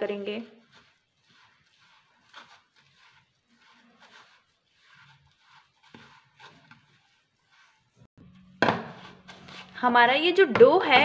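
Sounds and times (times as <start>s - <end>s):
hand rubbing dough in a bowl: 0.0s - 11.0s.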